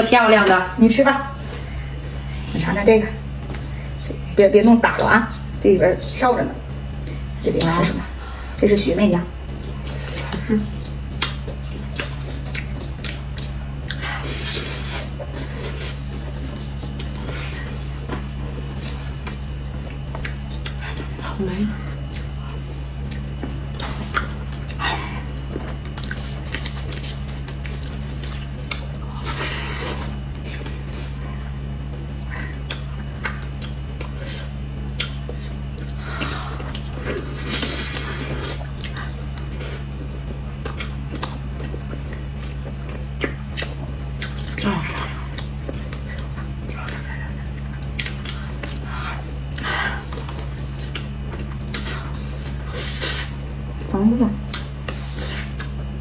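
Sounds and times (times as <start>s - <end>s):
steady low hum: 0.0s - 56.0s
soft squishing and chewing: 9.4s - 56.0s.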